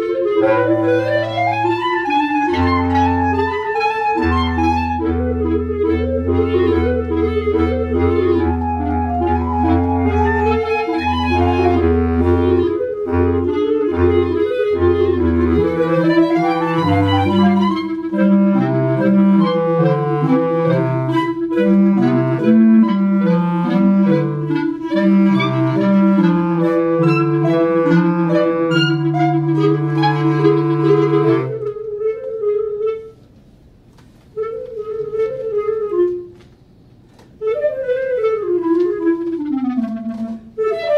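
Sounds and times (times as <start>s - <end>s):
clarinet trio playing: 0.0s - 40.9s.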